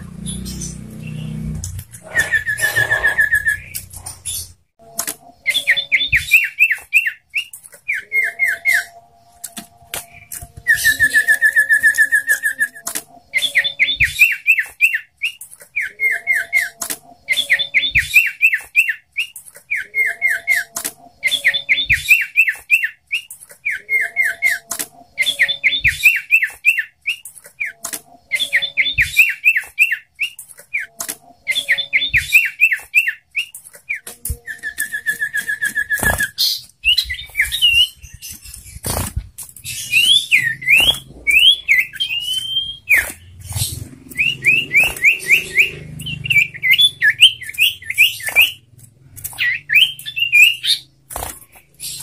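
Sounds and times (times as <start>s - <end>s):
bird chirping phrases: 0.0s - 39.0s, 39.6s - 52.0s
bird trill: 0.0s - 39.0s, 39.6s - 52.0s.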